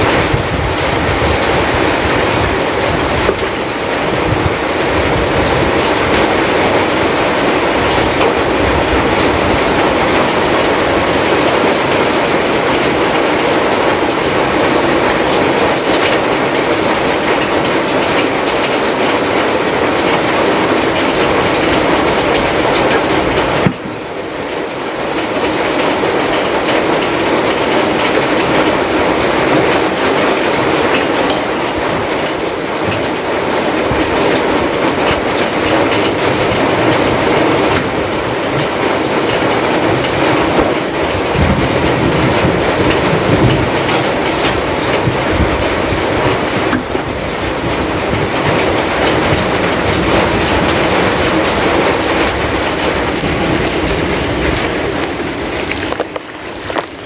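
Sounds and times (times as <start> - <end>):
rain on a roof: 0.0 - 57.0
rain splashing into puddles: 0.0 - 57.0.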